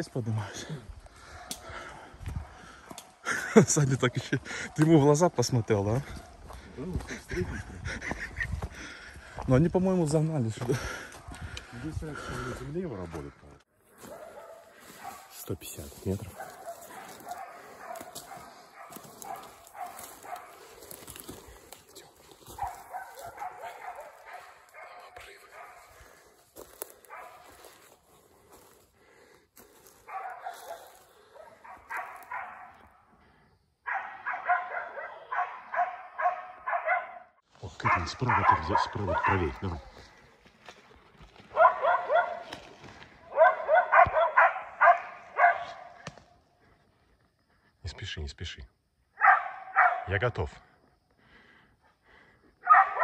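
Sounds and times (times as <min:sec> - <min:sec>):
distant dogs barking: 0:00.0 - 0:09.2, 0:10.7 - 0:12.7, 0:13.8 - 0:40.4, 0:41.4 - 0:46.9, 0:49.1 - 0:53.0.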